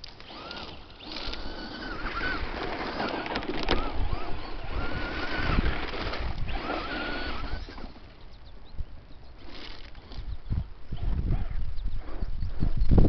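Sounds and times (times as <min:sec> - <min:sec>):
electric motor whining: 0:00.0 - 0:12.9.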